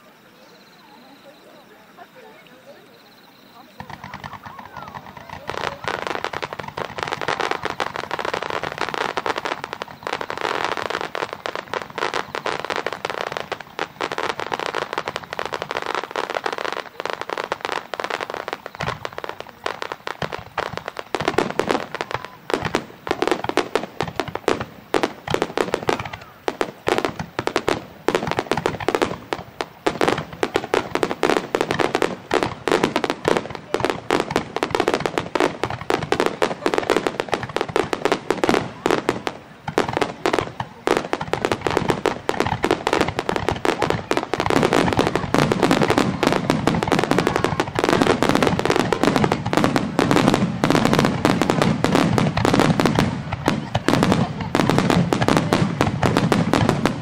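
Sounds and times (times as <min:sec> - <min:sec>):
fireworks crackling and popping: 0:00.0 - 0:57.0
firework bangs: 0:03.5 - 0:57.0.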